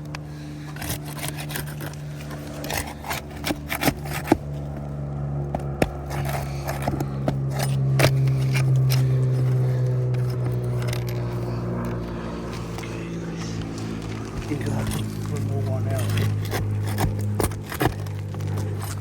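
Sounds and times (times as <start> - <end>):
low engine hum: 0.0 - 19.0
tool scraping and knocking: 0.1 - 4.9, 5.5 - 19.0.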